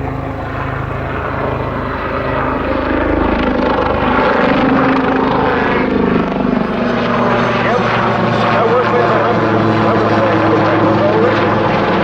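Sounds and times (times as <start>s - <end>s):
helicopter rotor beating: 0.0s - 12.0s.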